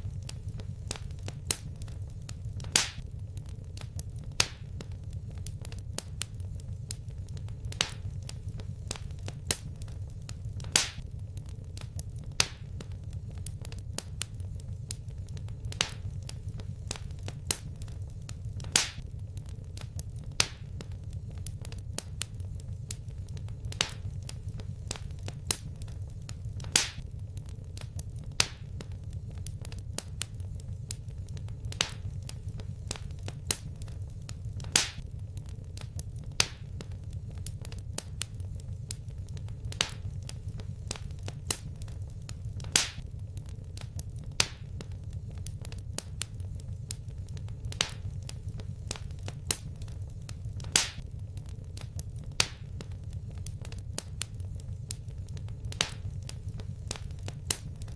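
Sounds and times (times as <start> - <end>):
fire crackling in a fireplace: 0.0 - 57.9.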